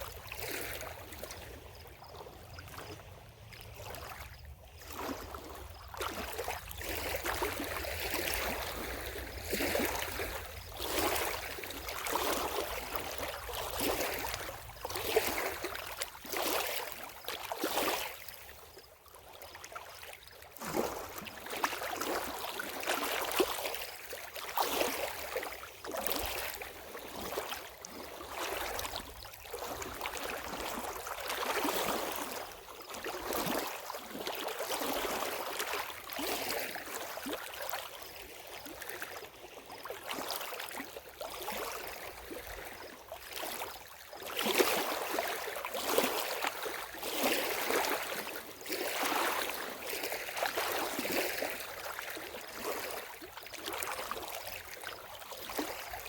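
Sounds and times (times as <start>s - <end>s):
lake waves lapping and splashing: 0.0s - 56.0s.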